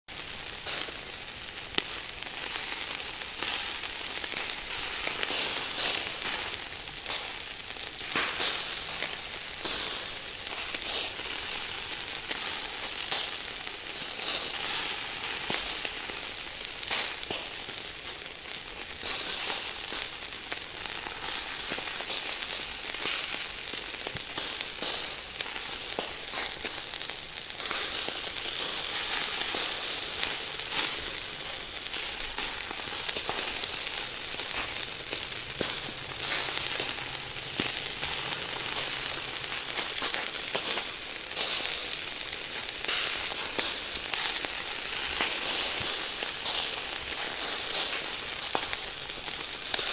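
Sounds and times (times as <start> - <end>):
food sizzling and crackling: 0.1 - 49.9.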